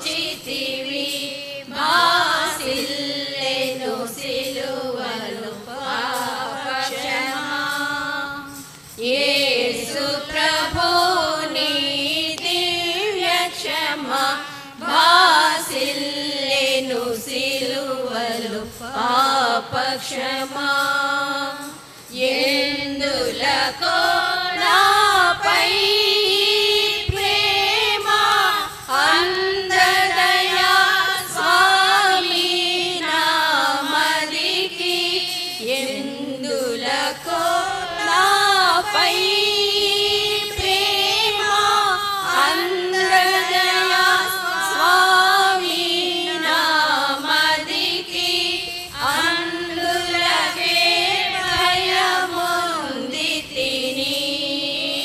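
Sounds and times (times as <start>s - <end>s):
women singing a hymn: 0.0s - 55.0s.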